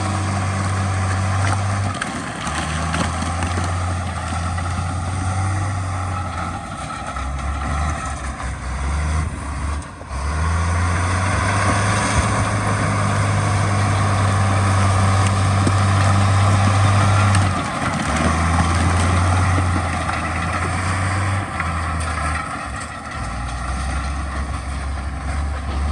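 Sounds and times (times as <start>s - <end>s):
heavy diesel machinery engine drone: 0.0s - 25.9s
low rumbling noise: 0.0s - 25.9s.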